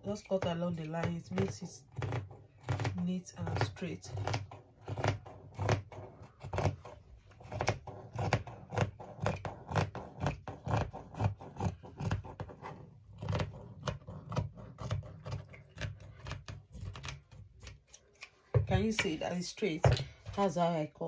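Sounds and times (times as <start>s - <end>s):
scissors snipping fabric: 0.0s - 19.2s.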